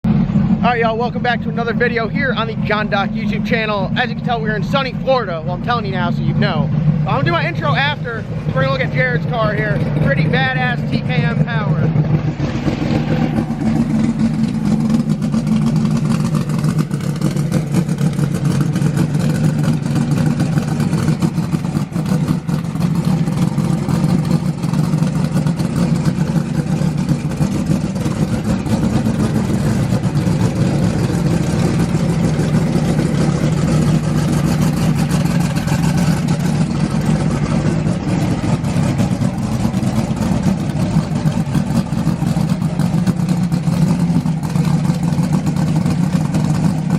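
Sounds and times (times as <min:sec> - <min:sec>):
race car engine idling: 0:00.0 - 0:46.9.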